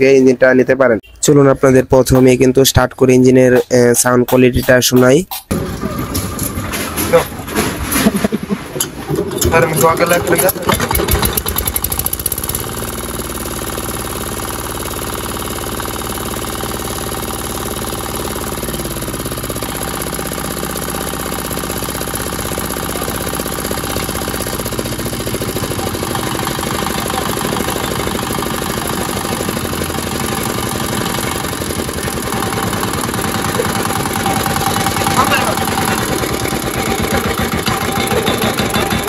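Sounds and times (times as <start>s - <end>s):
diesel engine running: 5.5s - 39.0s.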